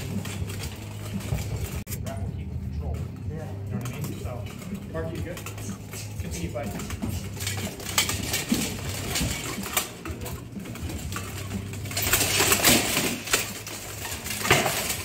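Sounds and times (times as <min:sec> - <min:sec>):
plate armor clinking and rattling: 0:00.0 - 0:02.1, 0:02.8 - 0:15.0
metallic clatter and scraping: 0:00.0 - 0:15.0.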